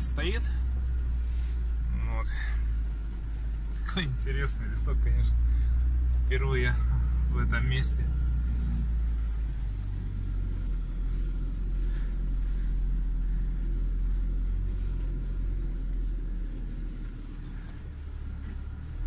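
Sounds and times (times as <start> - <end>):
engine running at low revs: 0.0 - 19.0.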